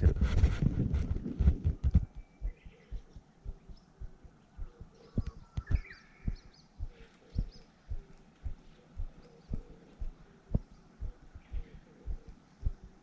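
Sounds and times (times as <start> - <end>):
faint bird chirps: 2.0 - 13.0.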